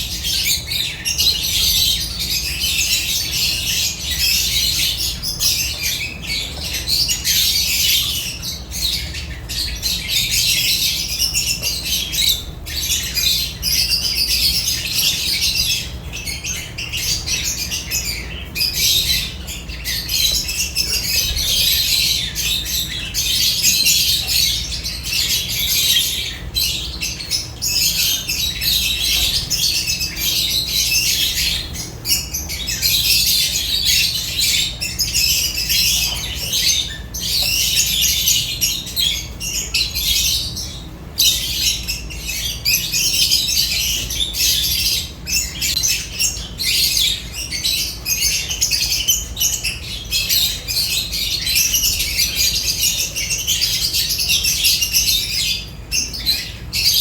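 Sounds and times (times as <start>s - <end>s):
lovebirds chattering: 0.0s - 57.0s.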